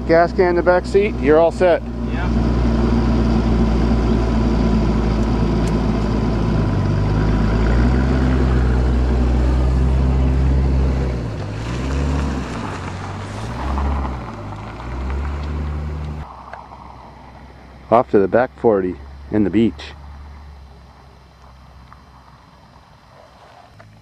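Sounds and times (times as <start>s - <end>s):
car engine running: 0.0s - 23.2s.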